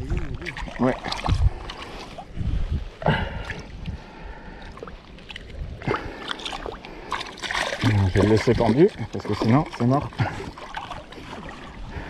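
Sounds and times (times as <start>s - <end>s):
faint water sounds: 0.0s - 12.0s.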